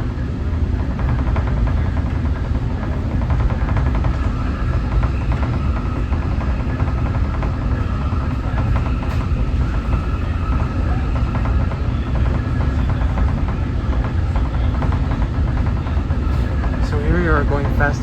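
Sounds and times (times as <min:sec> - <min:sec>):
train rumble on rails: 0:00.0 - 0:18.0.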